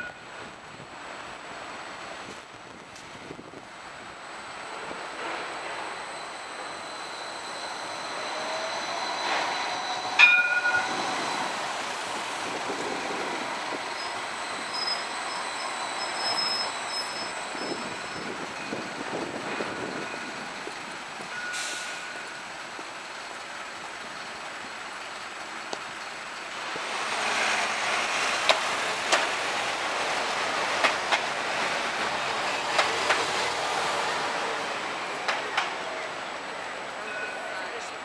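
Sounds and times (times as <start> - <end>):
street traffic noise: 0.0 - 38.0
tram high whine: 0.0 - 38.0.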